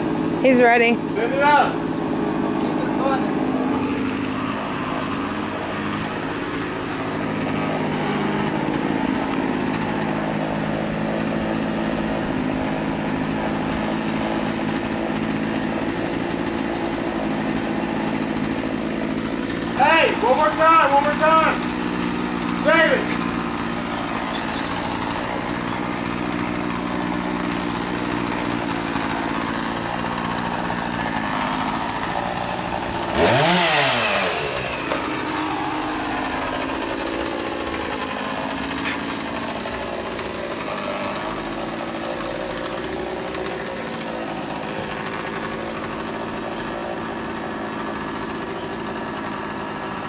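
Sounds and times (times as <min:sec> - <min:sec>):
chainsaw engine running: 0:00.0 - 0:50.0.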